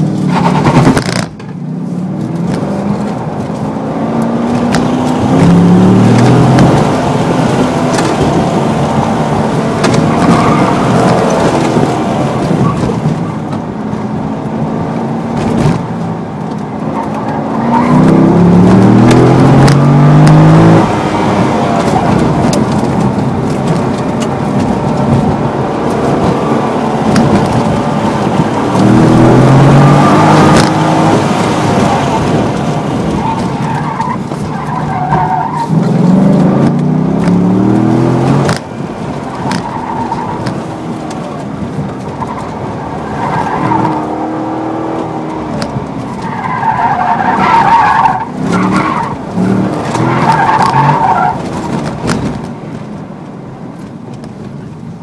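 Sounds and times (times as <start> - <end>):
car engine revving: 0.0 - 52.4.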